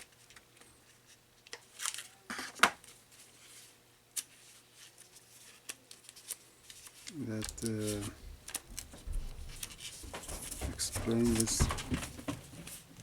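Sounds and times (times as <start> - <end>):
paper rustling: 0.1 - 13.0.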